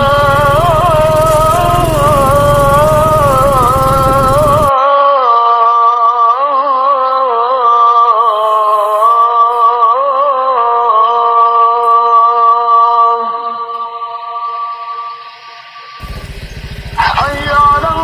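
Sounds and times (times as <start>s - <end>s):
person singing slow melody: 0.0s - 16.0s.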